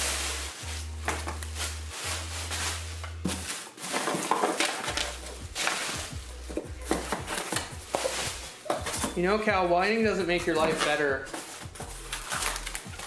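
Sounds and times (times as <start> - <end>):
cardboard packing rustling: 0.0 - 13.0
plastic wrapping crinkling: 0.0 - 13.0.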